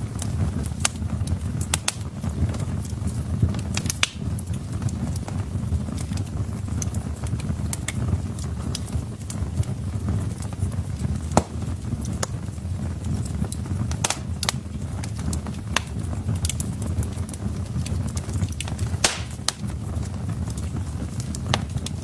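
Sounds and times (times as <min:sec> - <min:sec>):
burning logs crackling and popping: 0:00.0 - 0:22.0
low rumble of flames: 0:00.0 - 0:22.0.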